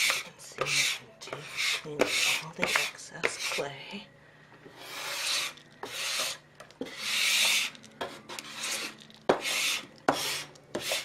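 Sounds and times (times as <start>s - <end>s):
clay scraping off surface: 0.0s - 3.7s, 4.7s - 11.0s.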